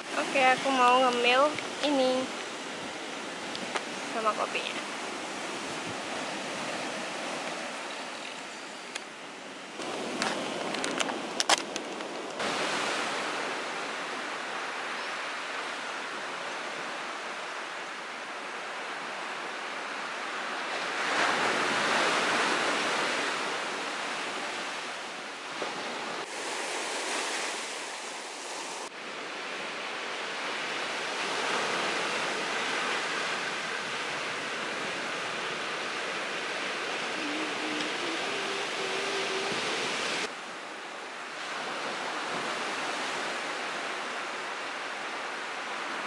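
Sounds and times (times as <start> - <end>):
sea surf washing onto beach: 0.0 - 46.0.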